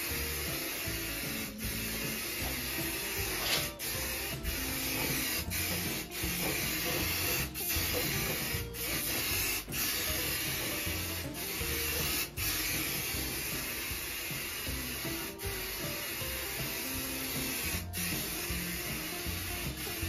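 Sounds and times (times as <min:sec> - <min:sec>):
spray paint can hissing: 0:00.0 - 0:20.0.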